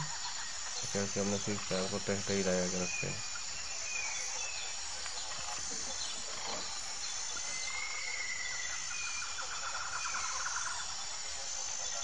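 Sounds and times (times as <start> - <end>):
faint whistled calls: 0.0 - 10.9
insects chirring: 0.0 - 12.0.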